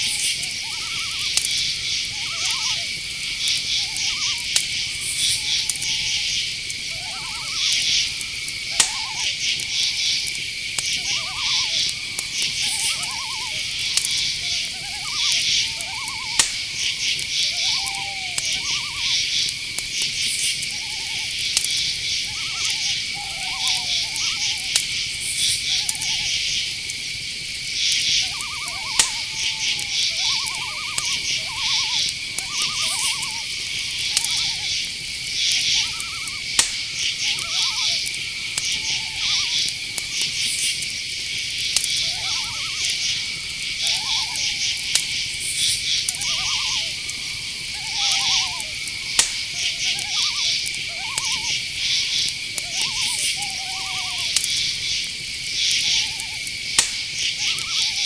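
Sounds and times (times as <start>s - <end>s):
crickets chirping: 0.0s - 58.0s
high insect trill: 0.0s - 58.0s
owl hooting: 0.0s - 58.0s
sharp clicks: 3.0s - 53.4s, 54.3s - 57.7s.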